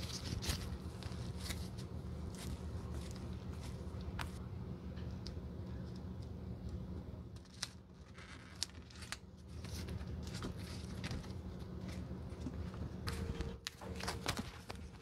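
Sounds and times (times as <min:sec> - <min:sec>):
soft rubbing and crinkling: 0:00.0 - 0:04.4, 0:07.4 - 0:15.0
steady low hum: 0:00.0 - 0:15.0.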